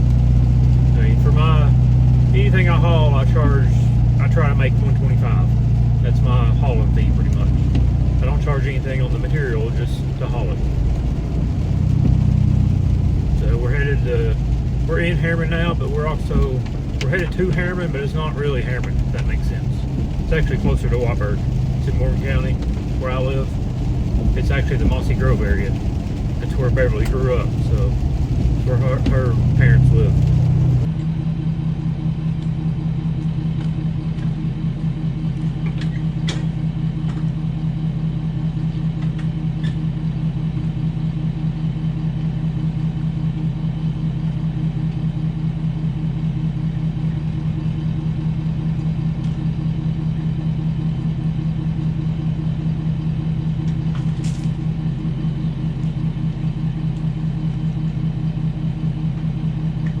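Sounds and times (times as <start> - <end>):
pickup truck engine and road drone: 0.0 - 60.0.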